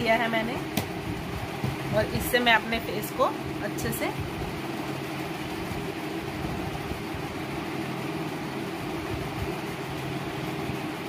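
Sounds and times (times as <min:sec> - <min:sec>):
cooling fan hum and hiss: 0:00.0 - 0:11.0.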